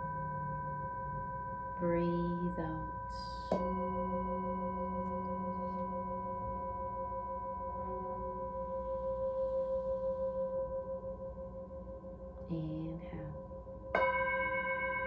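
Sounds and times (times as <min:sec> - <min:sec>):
singing bowl struck with mallet: 0:00.0 - 0:11.0, 0:12.7 - 0:15.0.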